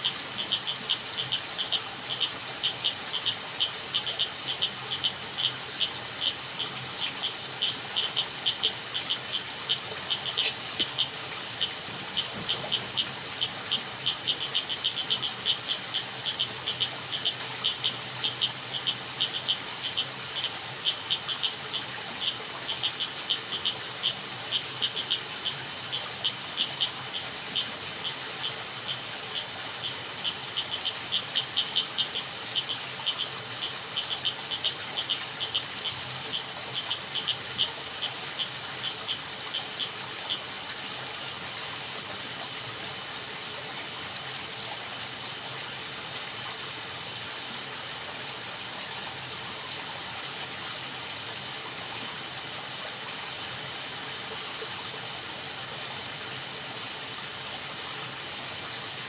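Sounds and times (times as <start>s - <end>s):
background hiss: 0.0s - 59.0s
frogs chirping: 0.0s - 59.0s.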